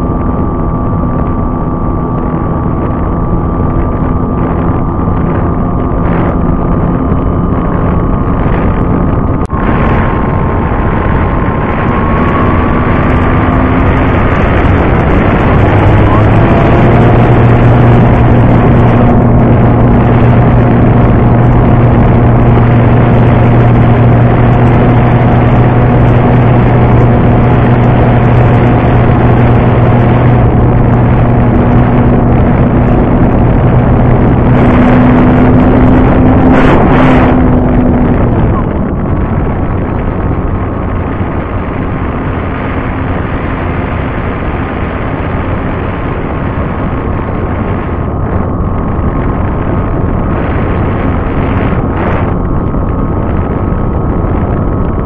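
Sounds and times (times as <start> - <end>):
wind rushing: 0.0 - 55.0.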